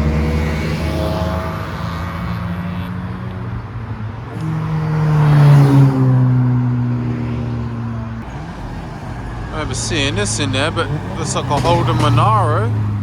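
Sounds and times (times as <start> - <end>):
car engines running: 0.0 - 13.0
car passing close: 0.0 - 13.0.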